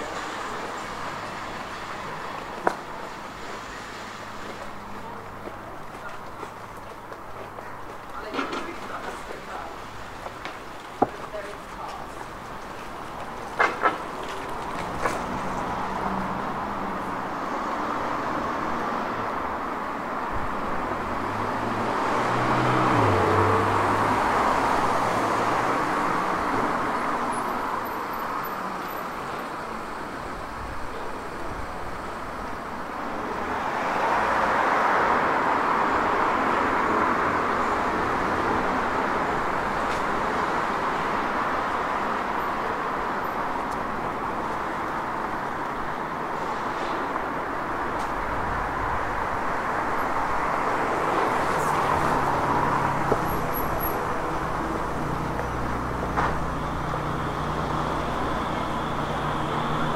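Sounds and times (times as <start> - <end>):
cars passing on street: 0.0 - 59.9.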